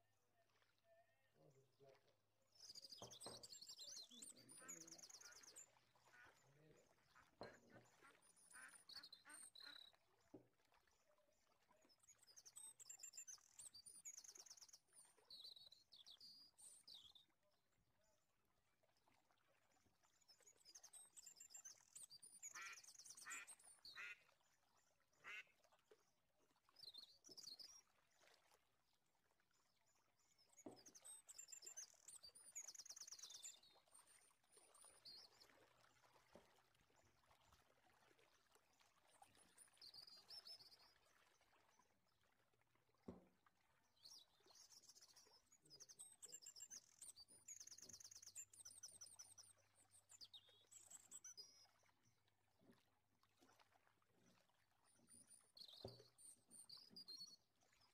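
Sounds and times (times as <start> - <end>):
faint bird chirps and trills: 0.0 - 28.6, 29.3 - 42.4, 43.7 - 57.9.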